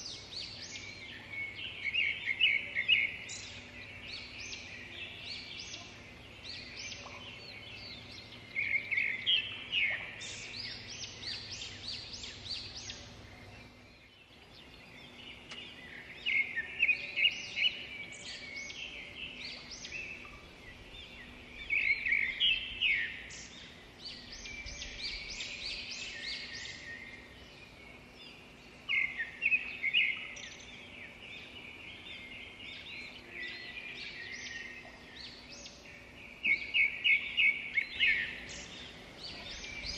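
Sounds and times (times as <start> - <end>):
faint background hiss: 0.0 - 39.9
songbirds singing trills: 0.0 - 39.9.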